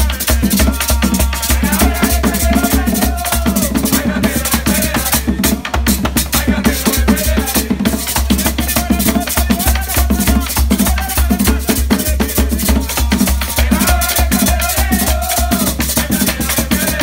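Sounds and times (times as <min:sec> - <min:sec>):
hand drums fast rhythm: 0:00.0 - 0:17.0
people singing: 0:00.0 - 0:17.0.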